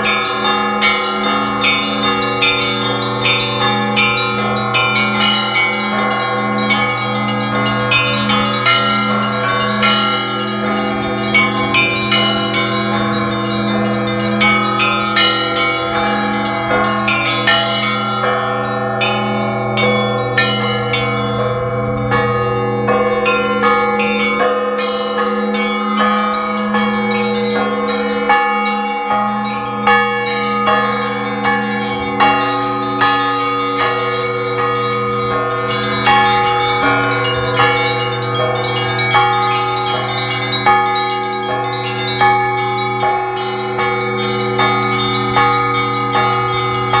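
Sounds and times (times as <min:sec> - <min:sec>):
deep bells humming: 0:00.0 - 0:47.0
small bells ringing rhythmically: 0:00.0 - 0:47.0.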